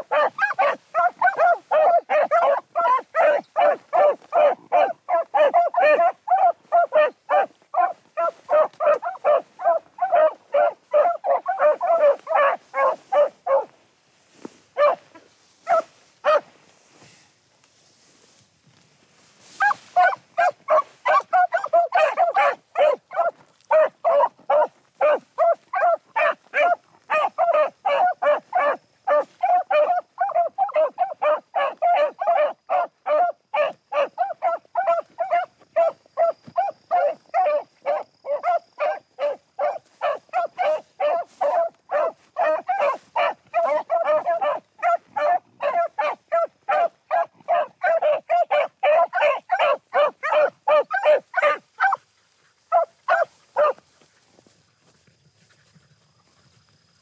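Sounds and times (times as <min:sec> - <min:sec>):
dogs baying: 0:00.0 - 0:13.7, 0:14.8 - 0:16.4, 0:19.6 - 0:54.5.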